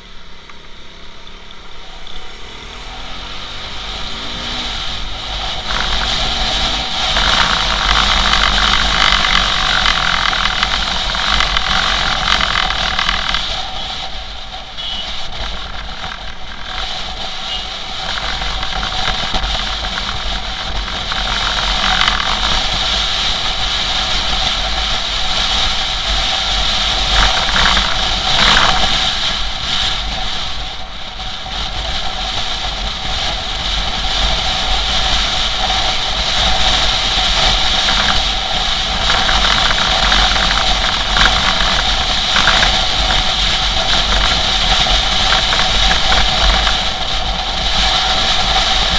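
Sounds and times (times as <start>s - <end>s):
motorcycle engine cruising: 0.0s - 48.9s
road noise: 0.0s - 48.9s
wind rumbling on microphone: 1.7s - 48.9s.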